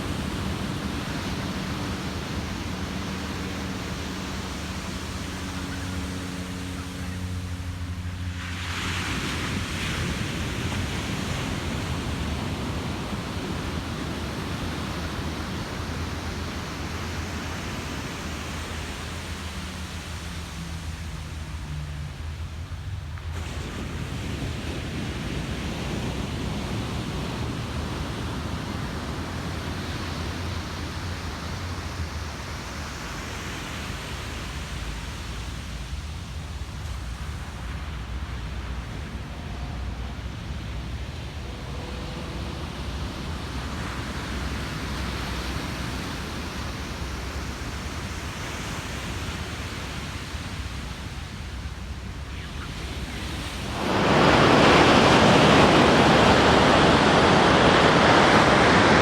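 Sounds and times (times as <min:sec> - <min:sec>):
ocean surf breaking on beach: 0:00.0 - 0:59.0
wind rumble on microphone: 0:00.0 - 0:59.0.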